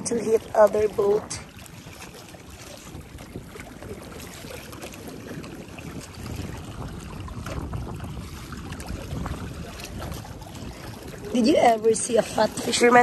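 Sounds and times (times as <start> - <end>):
wind and sea water rushing: 0.0 - 13.0.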